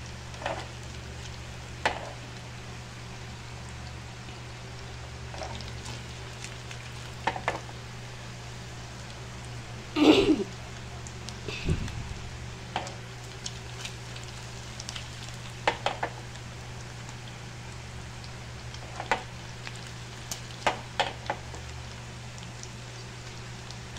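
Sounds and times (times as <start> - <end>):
sausages sizzling in oil: 0.0 - 23.9.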